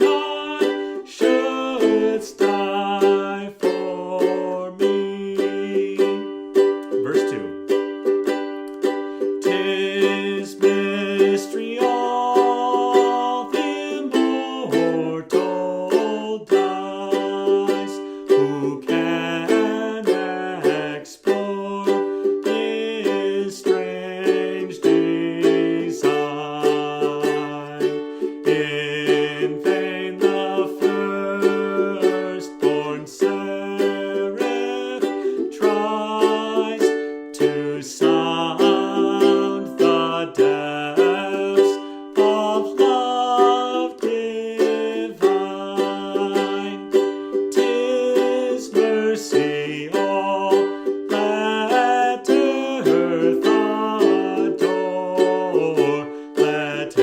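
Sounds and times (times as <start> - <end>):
man singing: 0.0 - 57.0
ukulele strumming: 0.0 - 57.0.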